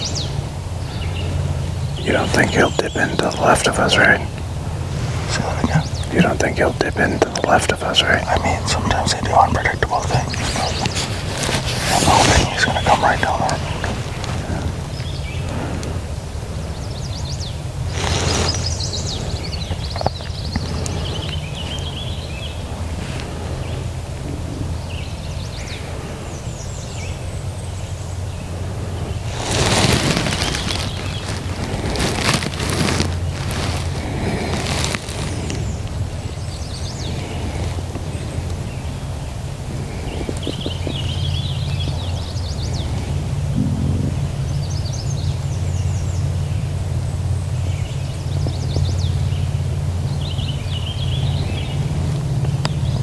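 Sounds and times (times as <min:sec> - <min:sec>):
songbirds chirping and singing: 0:00.0 - 0:53.0
steady low rumble: 0:00.0 - 0:53.0.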